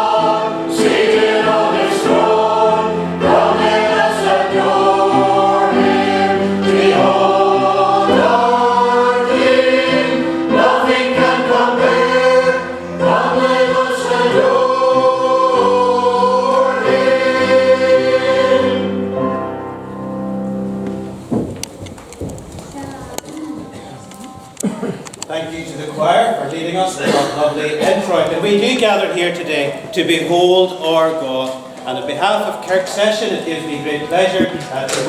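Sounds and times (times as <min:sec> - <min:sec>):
church choir singing: 0:00.0 - 0:21.1, 0:27.2 - 0:35.0.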